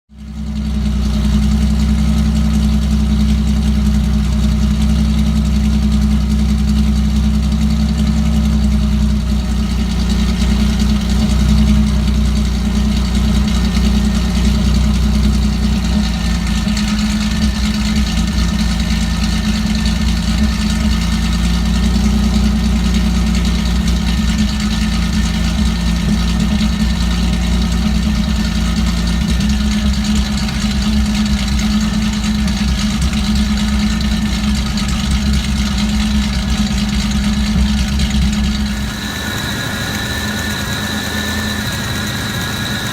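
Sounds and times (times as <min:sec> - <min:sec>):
car engine idling with misfire: 0:00.1 - 0:42.9.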